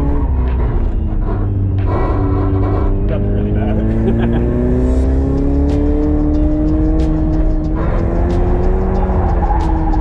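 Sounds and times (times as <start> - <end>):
car engine pulling under throttle: 0.0 - 10.0
music with a regular beat: 0.1 - 10.0.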